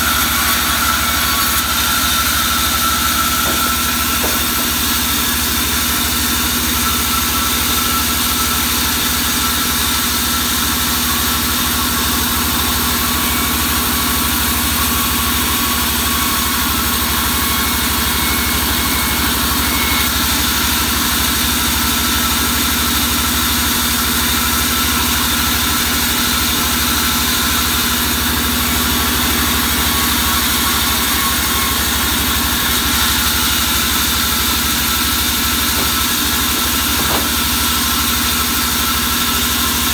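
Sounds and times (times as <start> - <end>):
band saw humming: 0.0 - 39.9.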